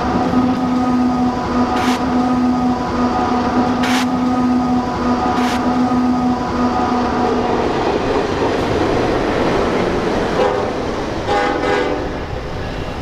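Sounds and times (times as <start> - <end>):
diesel locomotive engines: 0.0 - 13.0
train wheels on rail: 0.0 - 13.0.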